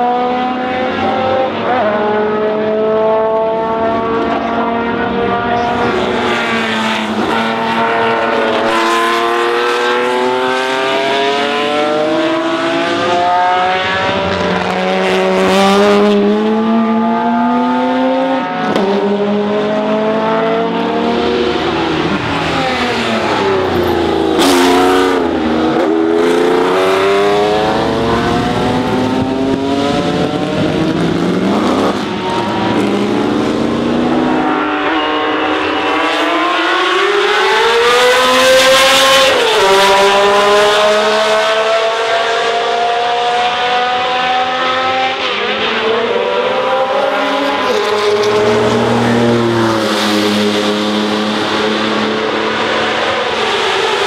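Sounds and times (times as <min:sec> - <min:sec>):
racing cars at full throttle: 0:00.0 - 0:54.0.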